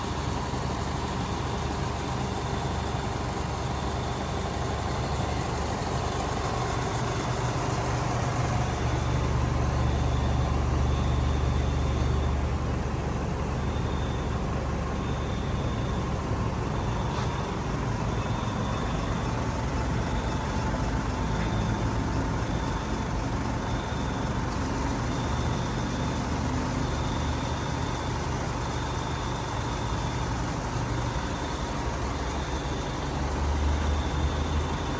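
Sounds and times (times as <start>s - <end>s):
road noise: 0.0s - 10.8s, 11.9s - 34.9s
vehicle engine rumble: 0.0s - 34.9s.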